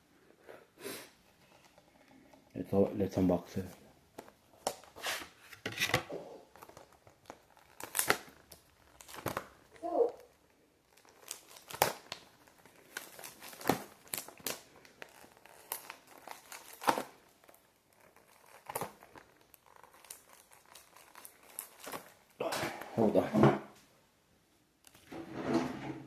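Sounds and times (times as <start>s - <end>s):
plastic wrap crinkling and tearing: 1.4s - 23.3s.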